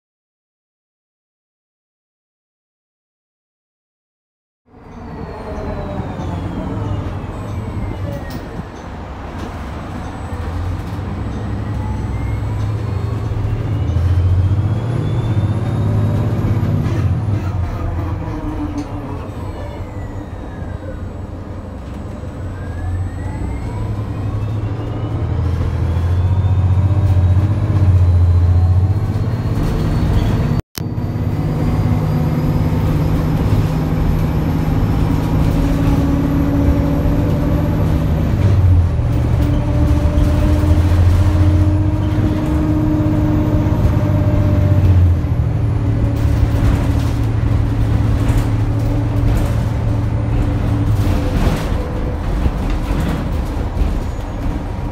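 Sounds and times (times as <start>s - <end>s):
bus drivetrain humming and whining: 4.7s - 54.9s.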